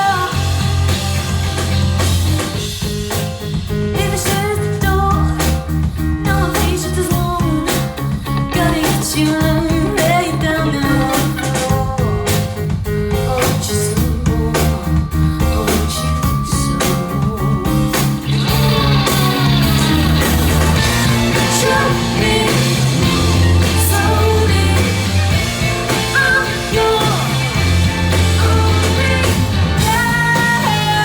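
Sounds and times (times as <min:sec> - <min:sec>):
person singing: 0:00.0 - 0:00.6, 0:06.3 - 0:31.0
live rock band: 0:00.0 - 0:31.0.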